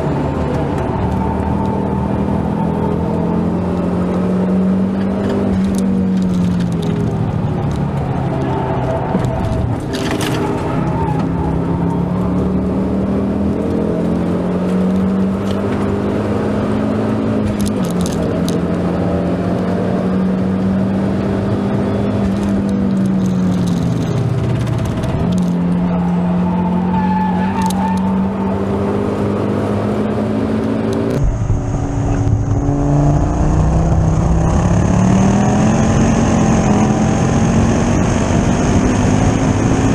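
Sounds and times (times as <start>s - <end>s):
car engine revving at speed: 0.0s - 39.9s
gear changes: 0.0s - 39.9s.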